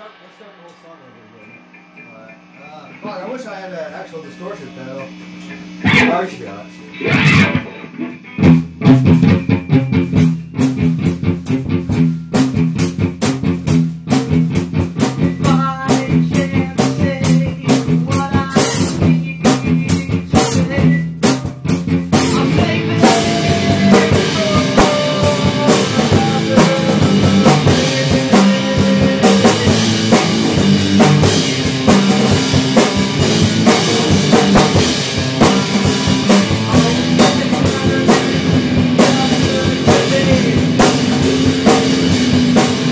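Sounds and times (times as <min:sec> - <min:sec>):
drum kit beat: 0:00.0 - 0:42.9
guitar: 0:00.0 - 0:42.9.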